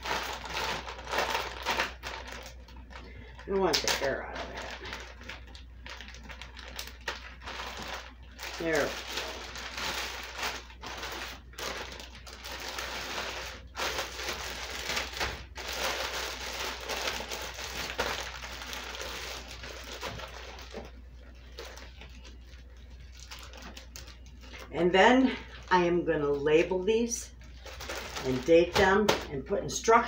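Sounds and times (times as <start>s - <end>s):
plastic freezer bags crinkling: 0.0s - 30.0s.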